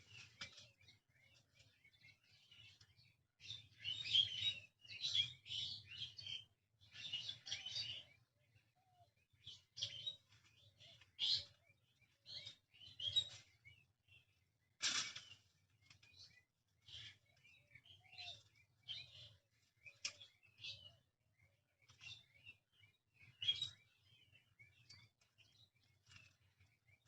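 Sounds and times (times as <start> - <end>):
birds chirping: 0.0 - 14.5, 15.1 - 27.0.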